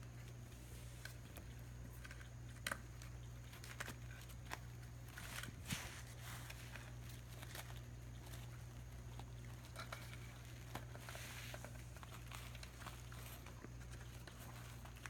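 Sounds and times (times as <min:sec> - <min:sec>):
kittens' paws scampering on plastic: 0:00.0 - 0:15.0
steady low hum: 0:00.0 - 0:15.0.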